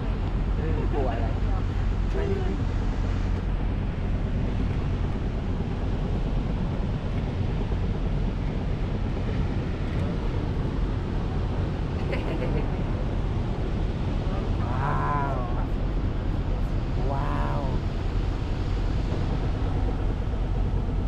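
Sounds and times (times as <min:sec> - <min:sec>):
boat engine rumble: 0:00.0 - 0:21.0
wind on microphone: 0:00.0 - 0:21.0.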